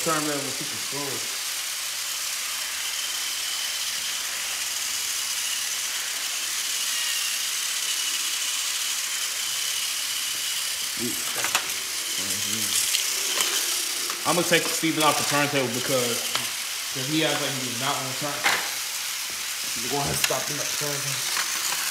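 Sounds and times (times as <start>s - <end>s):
toy trains whirring: 0.0s - 21.9s.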